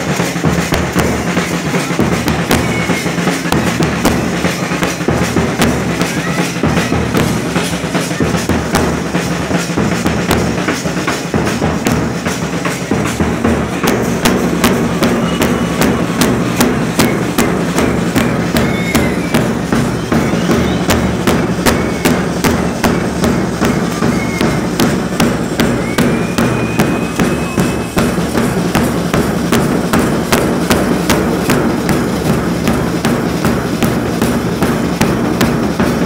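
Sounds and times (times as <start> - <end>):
fast drumbeat: 0.0 - 36.0.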